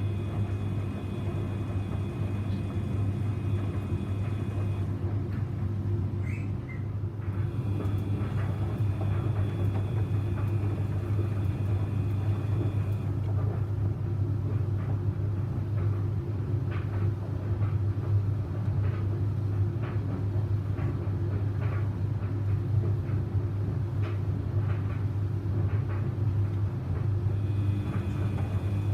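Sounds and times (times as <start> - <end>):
washing machine motor and drum hum: 0.0 - 28.9.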